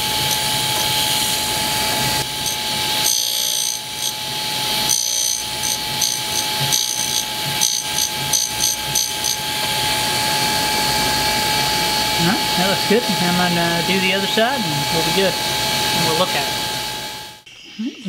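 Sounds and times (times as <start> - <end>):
grinding wheel hiss pulses: 0.0 - 17.3
grinder spindle whining: 0.0 - 17.4.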